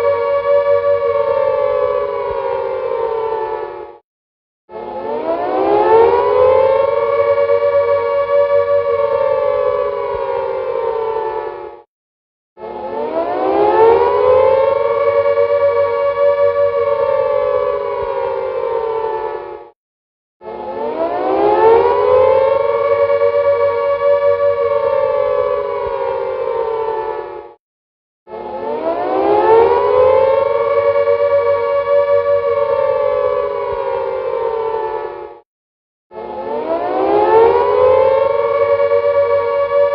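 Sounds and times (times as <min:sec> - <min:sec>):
air-raid siren wailing: 0:00.0 - 0:04.0, 0:04.7 - 0:11.9, 0:12.6 - 0:19.8, 0:20.4 - 0:27.6, 0:28.3 - 0:35.4, 0:36.1 - 0:39.9.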